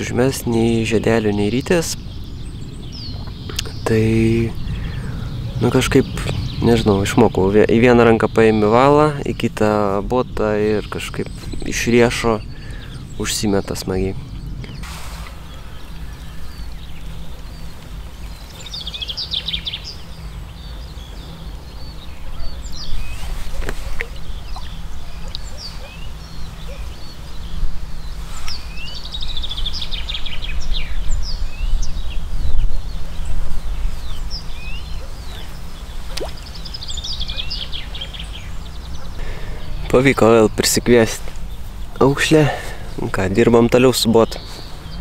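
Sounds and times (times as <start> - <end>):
songbirds singing: 0.0 - 45.0.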